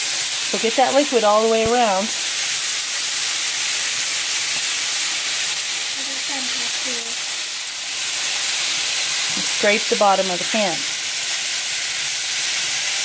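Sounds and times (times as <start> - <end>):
food sizzling in a skillet: 0.0 - 13.0.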